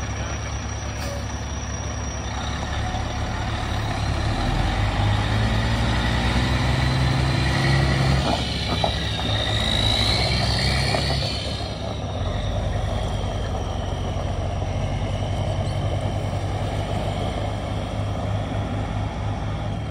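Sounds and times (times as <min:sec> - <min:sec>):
diesel truck engine running: 0:00.0 - 0:19.9.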